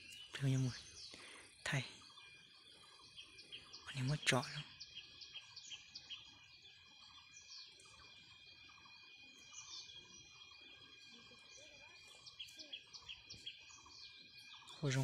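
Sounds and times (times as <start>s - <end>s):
faint small-bird chirps: 0.0s - 15.0s
high insect drone: 0.0s - 15.0s.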